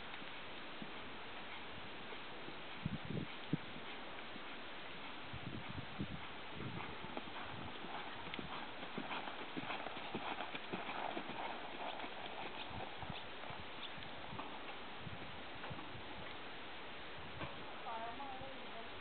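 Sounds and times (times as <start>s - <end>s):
hoofbeats on sand: 0.6s - 16.4s.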